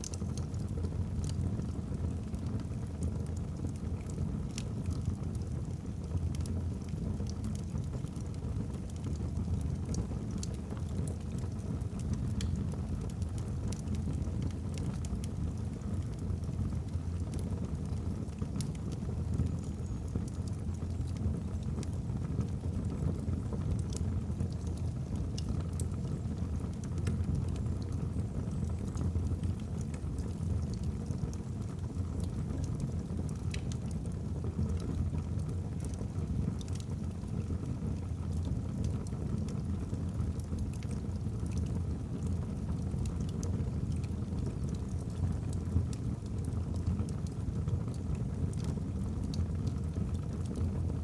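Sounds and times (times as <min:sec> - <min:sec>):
logs crackling and popping: 0:00.0 - 0:51.0
wood fire burning: 0:00.0 - 0:51.0.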